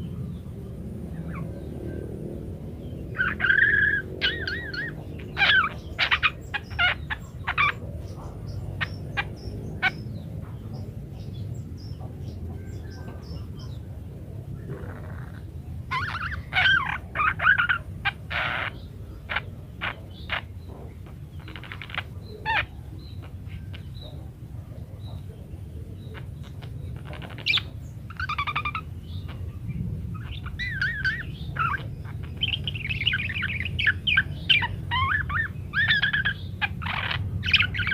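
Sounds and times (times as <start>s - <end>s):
budgerigars chirping and warbling: 0.0s - 37.9s
low background rumble: 0.0s - 37.9s.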